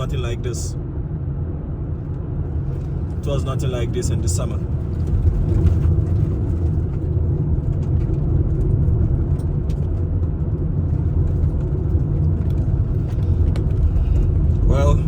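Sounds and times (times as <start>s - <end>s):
road and engine rumble in car cabin: 0.0s - 15.0s.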